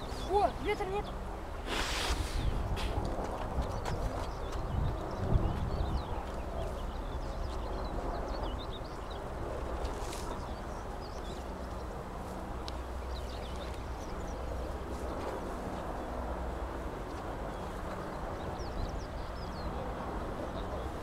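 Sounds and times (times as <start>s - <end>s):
small birds twittering: 0.0s - 21.0s.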